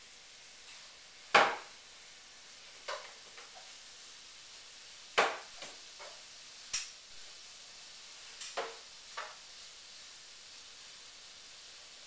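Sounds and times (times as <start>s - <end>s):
steady faint hiss: 0.0s - 12.0s.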